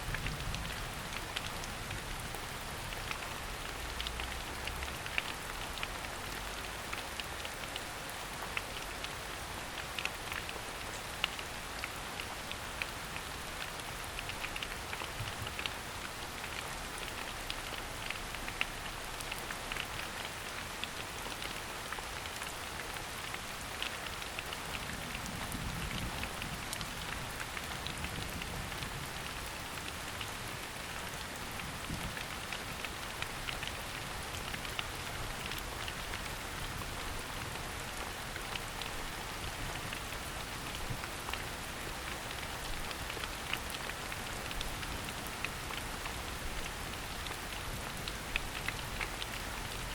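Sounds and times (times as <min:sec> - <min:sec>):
rain dripping on leaves: 0:00.0 - 0:49.9.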